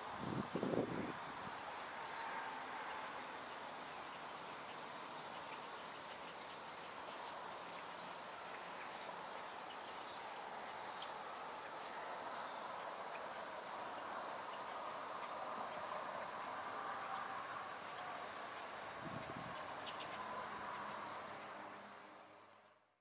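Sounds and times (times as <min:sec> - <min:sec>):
outdoor ambient hiss: 0:00.0 - 0:23.0.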